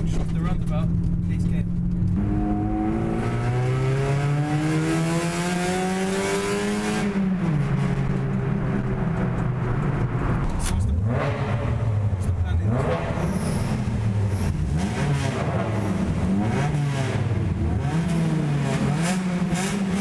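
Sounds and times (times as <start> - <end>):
car engine accelerating: 0.0 - 20.0
road noise: 0.0 - 20.0.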